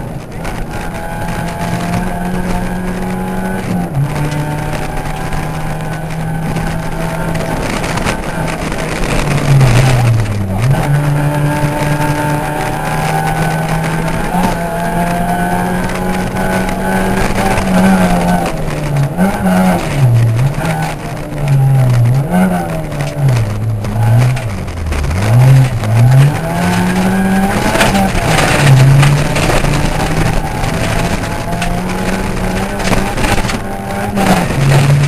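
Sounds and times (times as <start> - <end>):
gravel and tyre noise: 0.0 - 35.0
rally car engine revving: 0.0 - 35.0.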